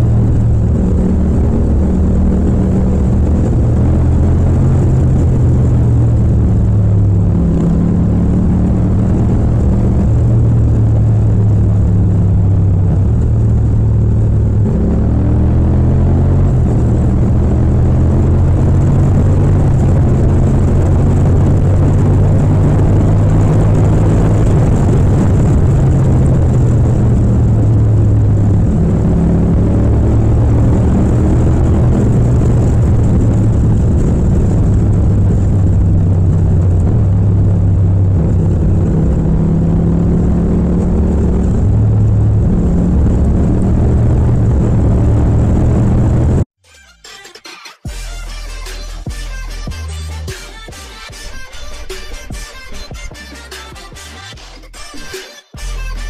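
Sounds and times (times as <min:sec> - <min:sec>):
motorcycle engine at highway speed: 0:00.0 - 0:46.5.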